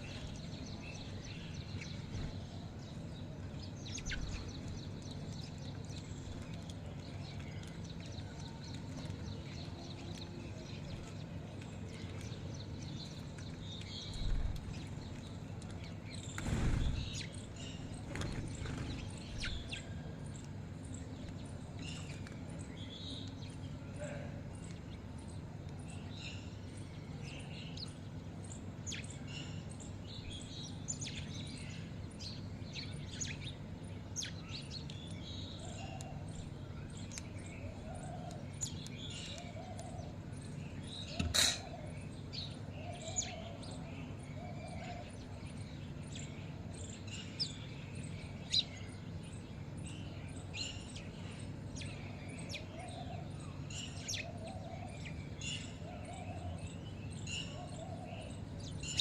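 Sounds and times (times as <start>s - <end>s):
birds chirping and twittering: 0.0s - 59.0s
steady low hum: 0.0s - 59.0s.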